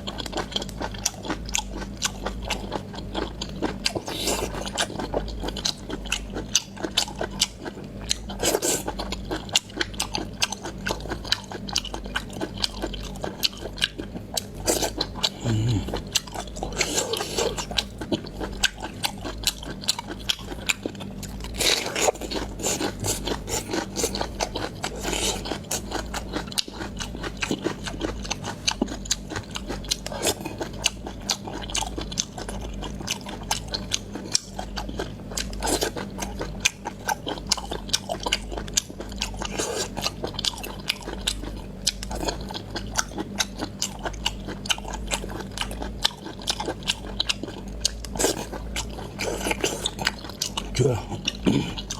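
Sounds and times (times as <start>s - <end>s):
close chewing with wet crunches: 0.0s - 51.9s.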